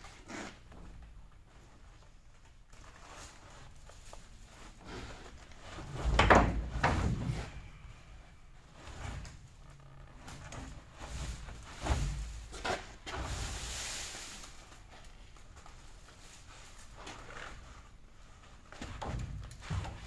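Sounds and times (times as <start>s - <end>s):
hoses rustling and rubbing: 0.0s - 20.0s.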